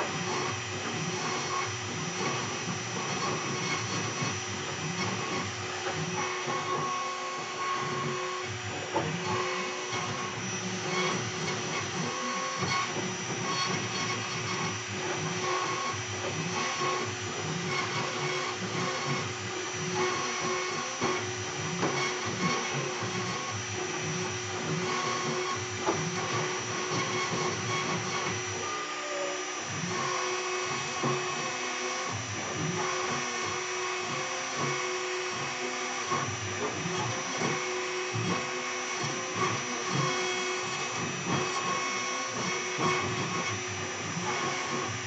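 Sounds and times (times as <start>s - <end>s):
router spindle high whine: 0.0s - 45.0s.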